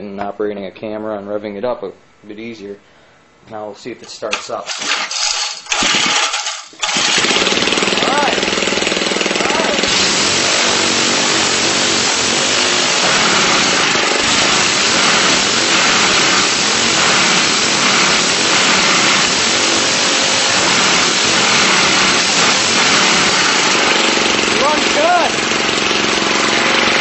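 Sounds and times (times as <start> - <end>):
small lawnmower engine running: 4.3 - 27.0.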